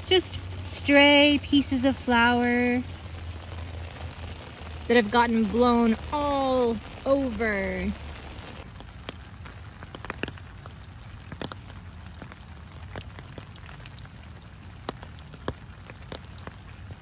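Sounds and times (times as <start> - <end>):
raindrops ticking close by: 0.0 - 17.0
steady rain falling: 0.0 - 17.0.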